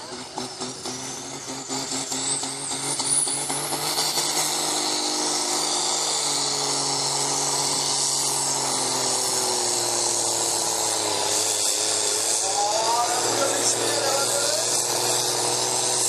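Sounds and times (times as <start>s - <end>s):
engine running hard with whine: 0.0s - 16.0s.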